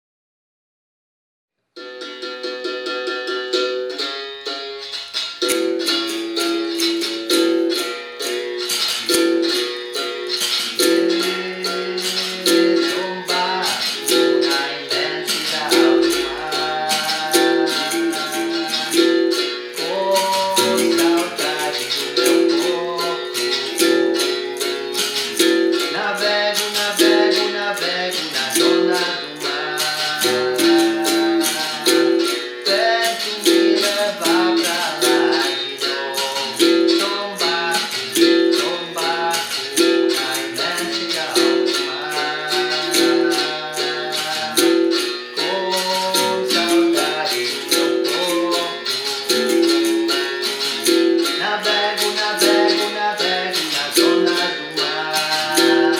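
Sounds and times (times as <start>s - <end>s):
person singing: 2.6s - 55.9s
rattle shaking: 4.8s - 55.9s.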